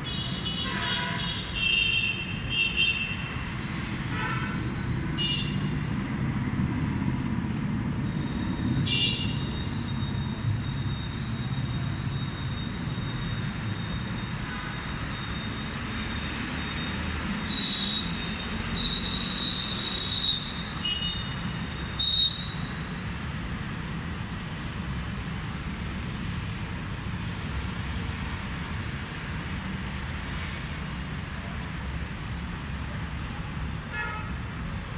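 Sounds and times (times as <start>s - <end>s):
low rumble of city traffic: 0.0s - 34.9s.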